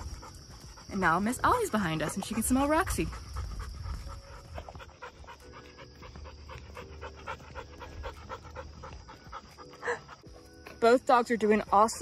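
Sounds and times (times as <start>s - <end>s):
dog panting: 0.0s - 10.8s.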